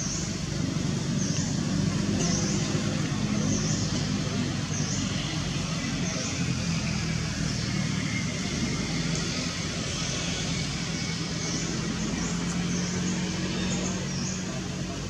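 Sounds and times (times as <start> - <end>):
motor traffic hum and rumble: 0.0 - 15.0.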